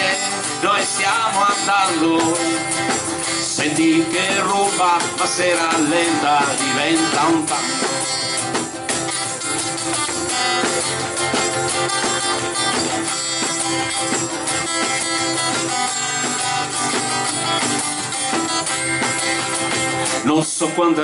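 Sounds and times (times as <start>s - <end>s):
tambourine: 0.0s - 20.1s
acoustic guitars strumming: 0.0s - 21.0s.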